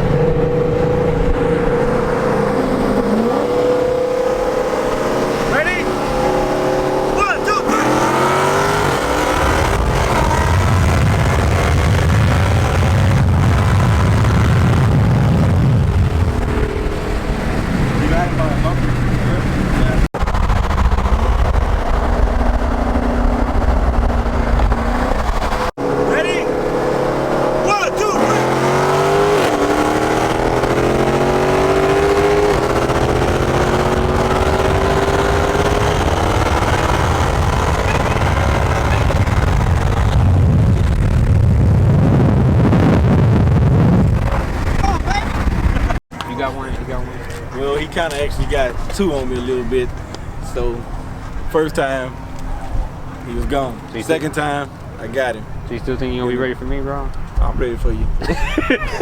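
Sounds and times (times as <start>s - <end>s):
car engine running hard: 0.0s - 55.9s
wind and road noise: 0.0s - 59.0s.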